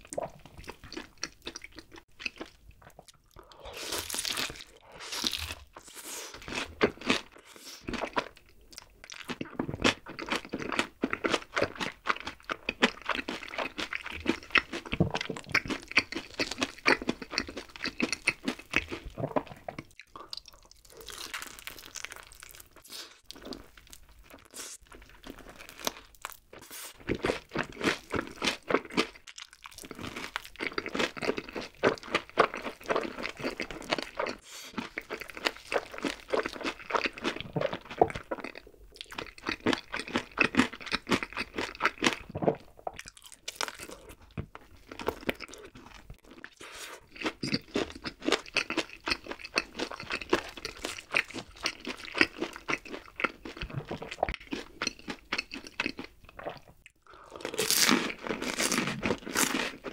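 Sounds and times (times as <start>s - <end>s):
crunching and chewing fried chicken: 0.0s - 59.9s.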